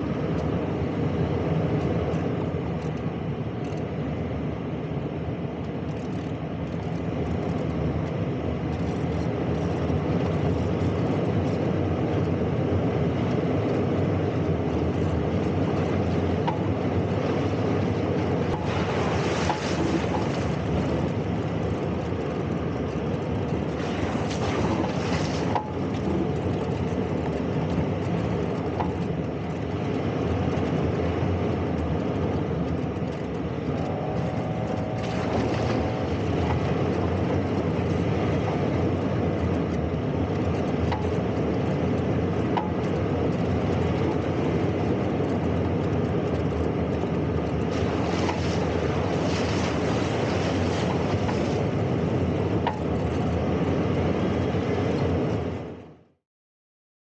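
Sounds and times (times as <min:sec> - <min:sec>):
engine and tyres rumbling: 0:00.0 - 0:56.2.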